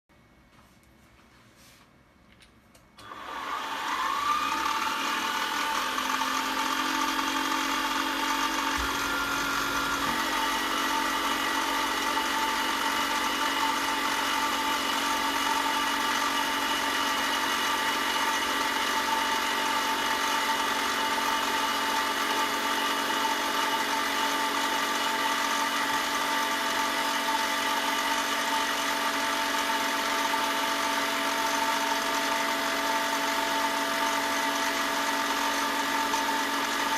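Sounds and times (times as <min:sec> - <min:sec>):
electric motor spinning: 0:03.0 - 0:36.9.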